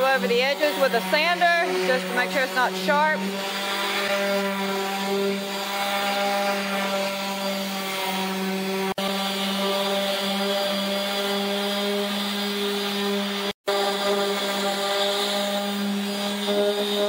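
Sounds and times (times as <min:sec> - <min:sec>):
orbital sander on plywood: 0:00.0 - 0:17.0.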